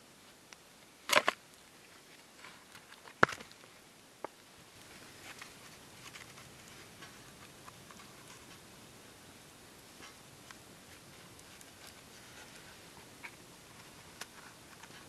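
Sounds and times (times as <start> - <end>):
dry twigs crackling and rustling: 0.5 - 8.8, 9.9 - 15.0.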